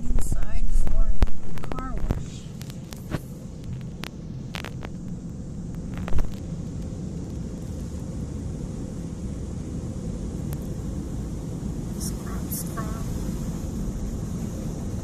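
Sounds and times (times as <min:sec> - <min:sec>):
car wash mechanical rumble: 0:00.0 - 0:15.0.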